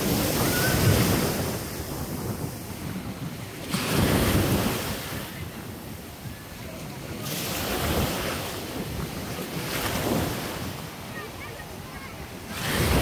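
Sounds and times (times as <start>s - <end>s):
sea surf breaking: 0.0s - 13.0s
wind buffeting microphone: 0.0s - 13.0s.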